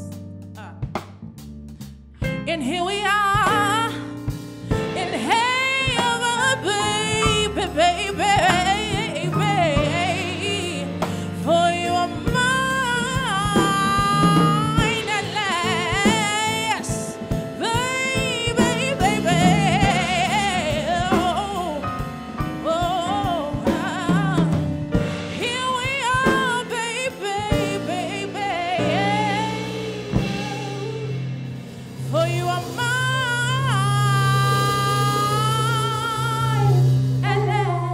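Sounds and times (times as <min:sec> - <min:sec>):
drum kit: 0:00.0 - 0:37.9
woman singing a gospel ballad: 0:02.2 - 0:31.4, 0:32.0 - 0:37.9.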